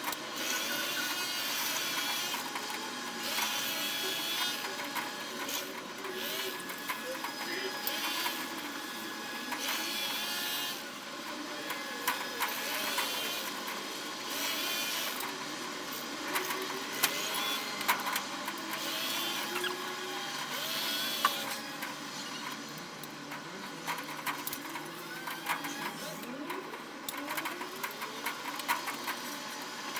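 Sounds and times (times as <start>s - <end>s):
power tool whirring: 0.0s - 29.9s.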